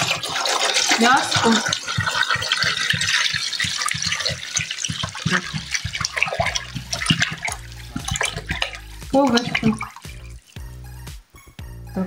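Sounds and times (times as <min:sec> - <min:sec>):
bottle glugging: 0:00.0 - 0:10.7
water pouring and splashing: 0:00.0 - 0:10.8.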